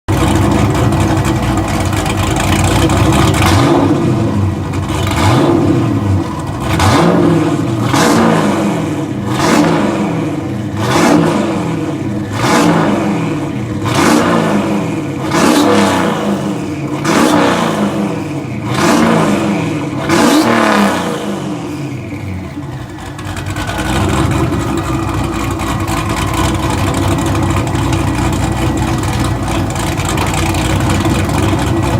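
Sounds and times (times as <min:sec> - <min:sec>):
engine revving: 0:00.1 - 0:31.9.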